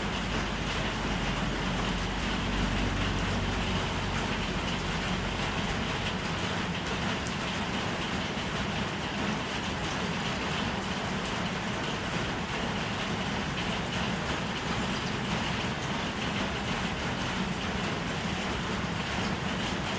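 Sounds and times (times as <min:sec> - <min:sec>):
water running in a steady rush: 0:00.0 - 0:19.9.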